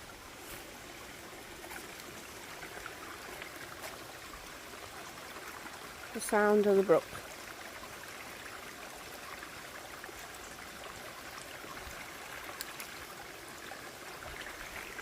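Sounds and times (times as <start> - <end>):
brook running: 0.0 - 15.0.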